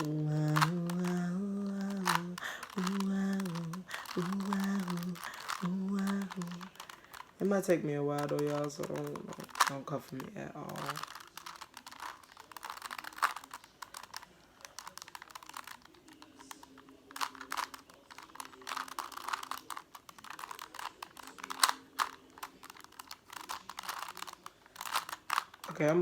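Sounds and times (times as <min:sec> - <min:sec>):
puzzle cube clicking: 0:00.0 - 0:26.0.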